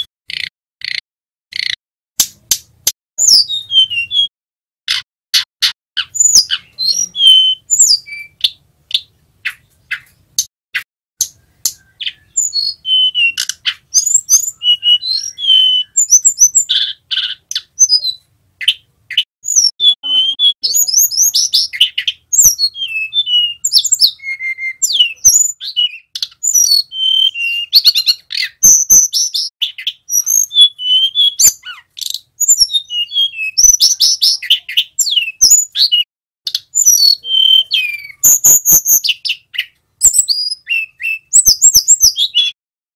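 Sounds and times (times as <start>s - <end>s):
bird song with chirps and trills: 0.0s - 4.3s, 4.9s - 42.6s.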